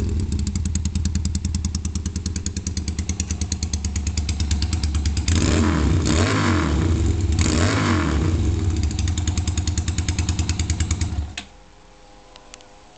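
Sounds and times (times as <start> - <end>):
motorcycle engine revving and idling: 0.0 - 11.4.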